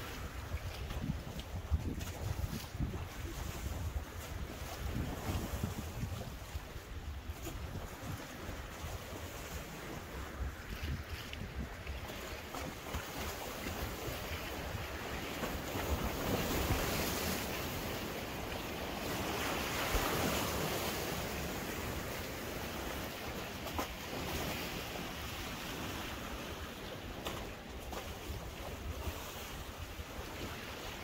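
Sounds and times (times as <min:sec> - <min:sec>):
lake waves splashing on shore: 0:00.0 - 0:31.0
wind rumbling on microphone: 0:00.0 - 0:31.0.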